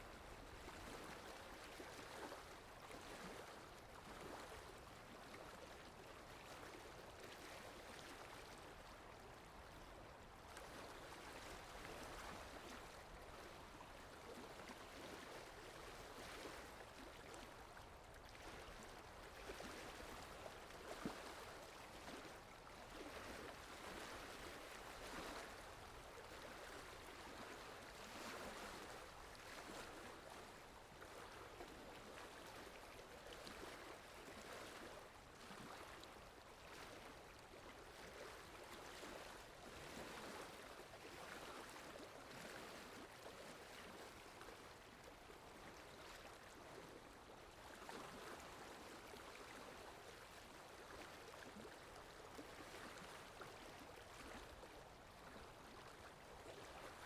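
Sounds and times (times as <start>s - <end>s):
water lapping: 0.0s - 57.0s
wind: 0.0s - 57.0s.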